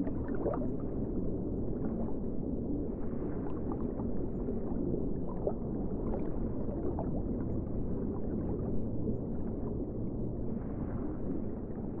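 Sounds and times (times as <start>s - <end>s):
muffled underwater rumble: 0.0s - 12.0s.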